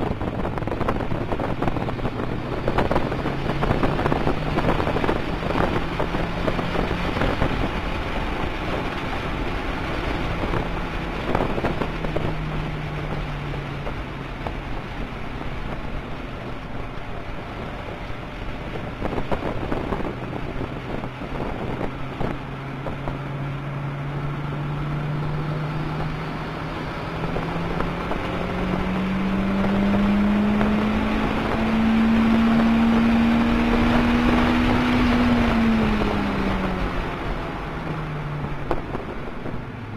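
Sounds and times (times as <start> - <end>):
car engine accelerating: 0.0 - 39.9
road noise: 0.0 - 39.9
wind noise: 0.0 - 39.9.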